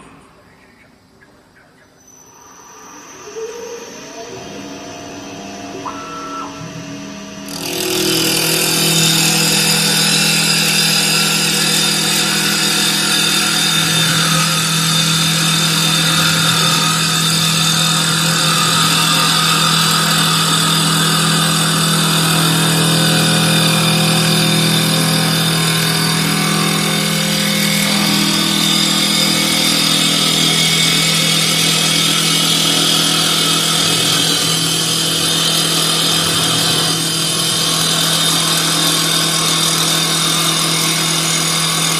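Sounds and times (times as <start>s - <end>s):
lathe motor hum: 2.2s - 41.9s
cutting tool shaving wood: 7.4s - 41.9s.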